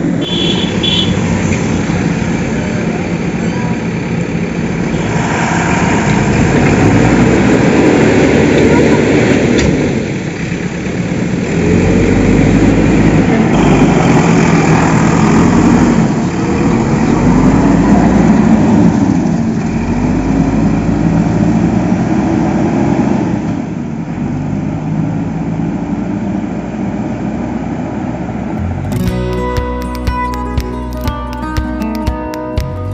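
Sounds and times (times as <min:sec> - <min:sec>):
heavy engine revving: 0:01.2 - 0:29.2.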